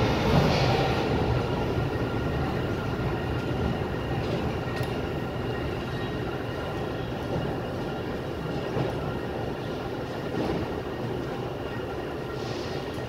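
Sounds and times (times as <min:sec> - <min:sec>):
low rumble of metro station: 0:00.0 - 0:13.0.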